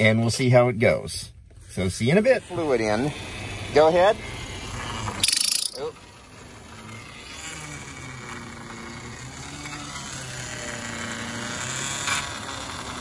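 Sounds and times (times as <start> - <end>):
car engine idling: 1.2 - 13.0
power steering pump groaning: 1.5 - 13.0.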